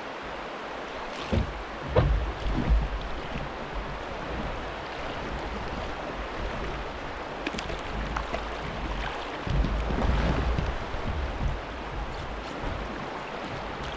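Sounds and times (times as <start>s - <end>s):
moving water around kayak: 0.0s - 13.9s.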